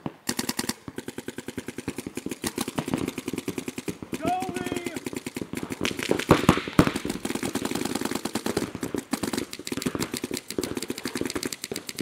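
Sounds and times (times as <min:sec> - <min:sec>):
loud pops: 0:00.0 - 0:12.0
paintball markers firing rapidly: 0:00.0 - 0:12.0.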